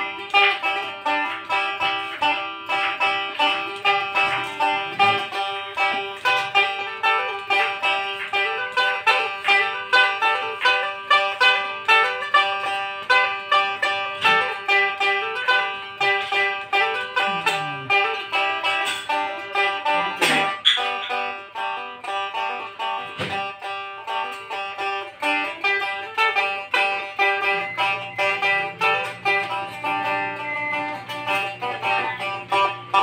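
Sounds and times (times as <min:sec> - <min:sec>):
lute drone note: 0:00.0 - 0:07.8, 0:08.4 - 0:21.2, 0:26.6 - 0:33.0
plucked lute notes: 0:00.0 - 0:33.0.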